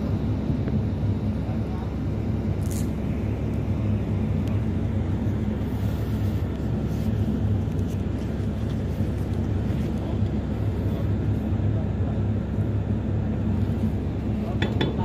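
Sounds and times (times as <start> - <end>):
ship engine hum: 0.0 - 15.0.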